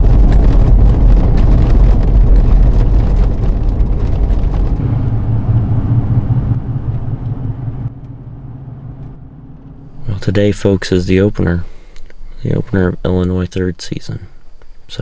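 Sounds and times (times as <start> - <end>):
loud low rumble: 0.0 - 12.4
crackling noise: 0.0 - 15.0.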